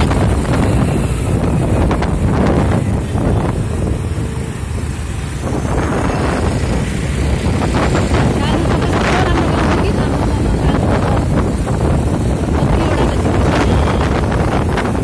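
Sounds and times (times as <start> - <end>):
vehicle and traffic noise: 0.0 - 15.0
wind buffeting microphone: 0.0 - 15.0.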